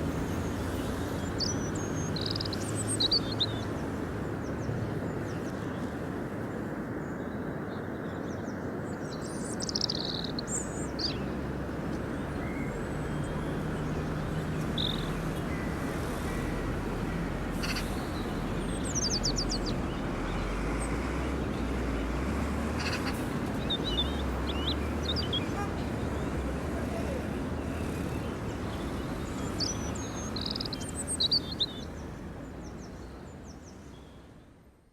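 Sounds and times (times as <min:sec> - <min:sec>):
rumbling outdoor background noise: 0:00.0 - 0:34.9
small birds chirping: 0:00.1 - 0:06.0, 0:07.8 - 0:34.4.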